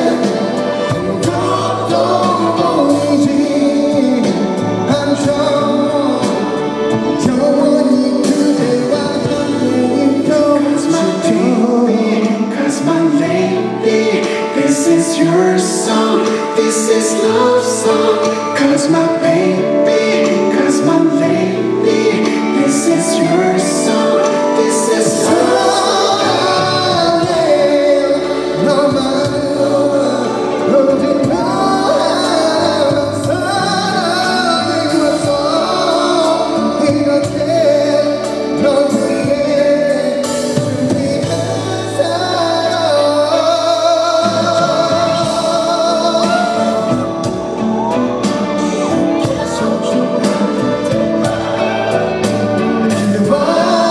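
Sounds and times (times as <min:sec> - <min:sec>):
live band playing: 0:00.0 - 0:53.9
man singing love song: 0:00.0 - 0:53.9.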